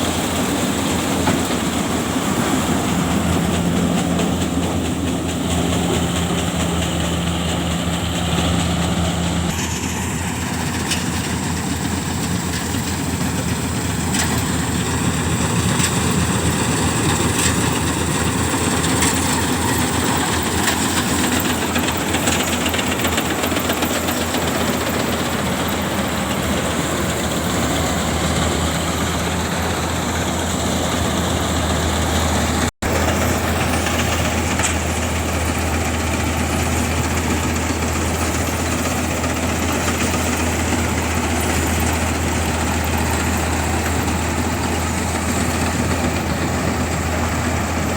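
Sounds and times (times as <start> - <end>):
harvesting machine engine running: 0.0 - 47.9.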